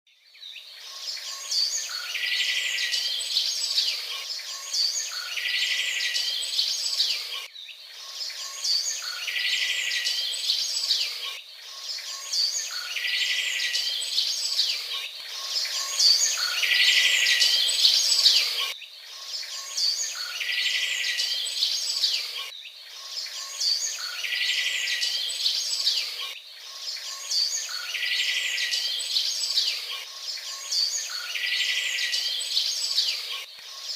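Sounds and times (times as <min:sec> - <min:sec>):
songbirds chirping and whistling: 0:00.1 - 0:33.9.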